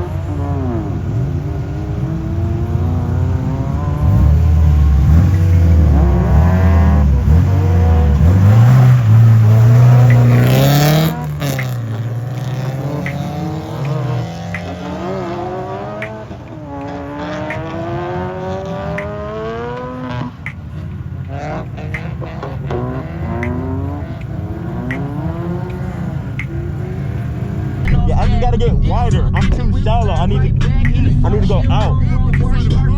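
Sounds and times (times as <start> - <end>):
car engine revving: 0.0 - 32.9.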